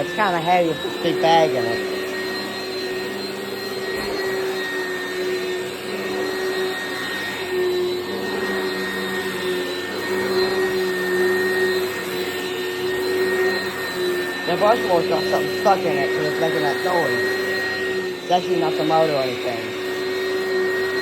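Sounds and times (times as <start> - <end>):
upright vacuum running: 0.0 - 21.0
vacuum motor whine: 0.0 - 21.0.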